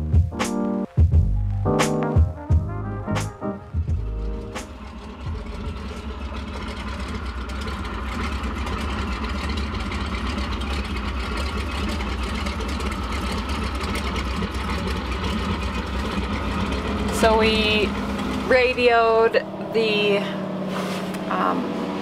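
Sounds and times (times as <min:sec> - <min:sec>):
boat engine idling: 0:02.7 - 0:22.0.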